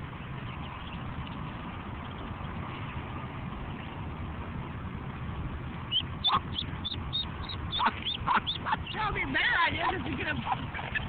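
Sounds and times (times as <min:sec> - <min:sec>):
ducklings peeping: 0:00.0 - 0:04.2, 0:05.8 - 0:11.0
steady low rumble: 0:00.0 - 0:11.0.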